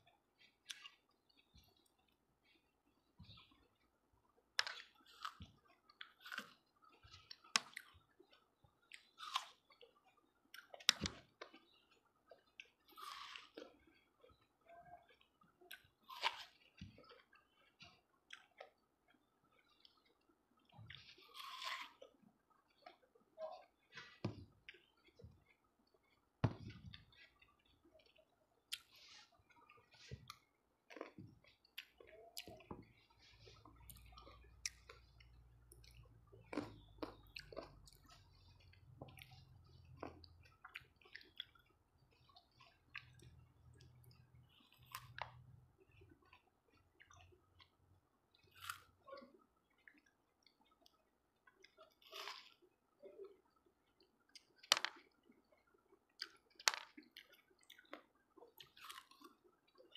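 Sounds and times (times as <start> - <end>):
person chewing fruit: 0.0 - 59.9.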